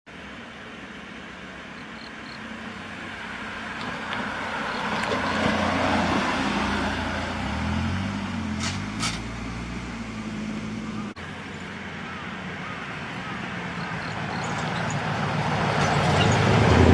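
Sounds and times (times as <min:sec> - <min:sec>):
truck driving past: 0:00.1 - 0:16.9.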